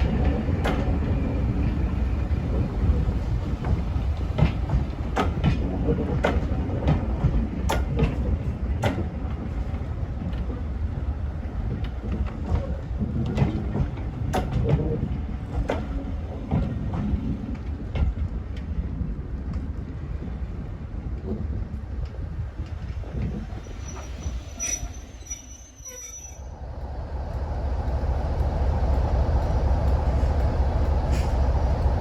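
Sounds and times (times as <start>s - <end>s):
train rumbling: 0.0s - 32.0s
train wheels clicking: 0.0s - 32.0s.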